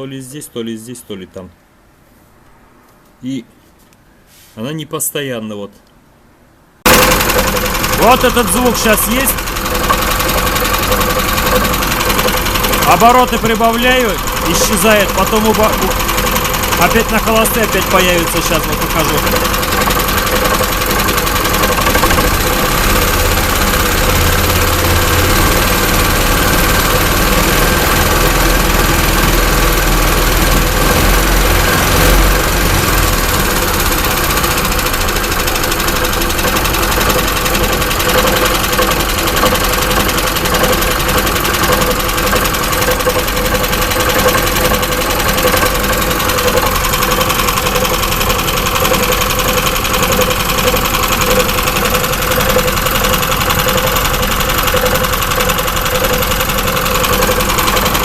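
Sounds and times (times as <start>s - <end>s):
driveshaft knocking: 6.9s - 58.0s
vehicle engine idling: 6.9s - 58.0s.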